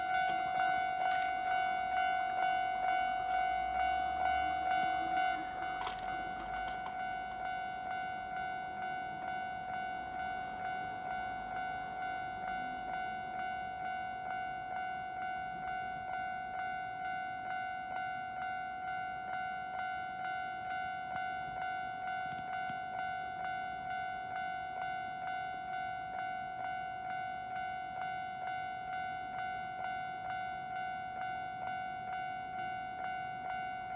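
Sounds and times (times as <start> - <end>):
level crossing bell ringing: 0.0 - 33.9.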